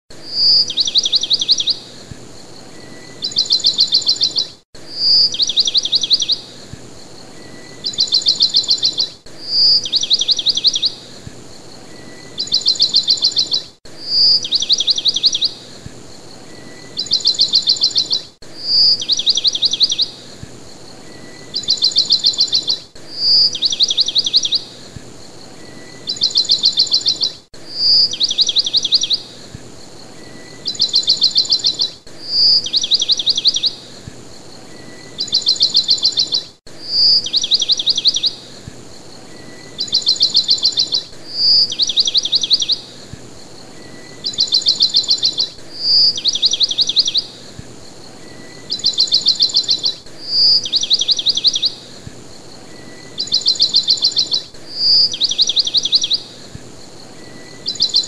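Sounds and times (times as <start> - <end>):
recorded birdsong whistles and trills: 0.1 - 58.0.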